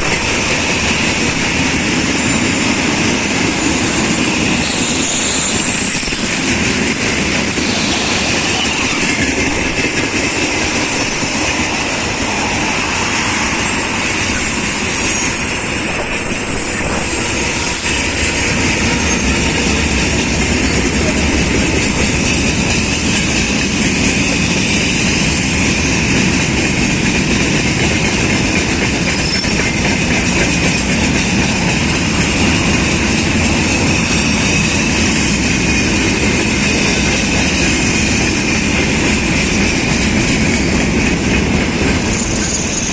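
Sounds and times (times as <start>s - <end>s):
train wheels rumbling on rails: 0.0s - 42.9s
wheels clacking over rail joints: 0.0s - 42.9s.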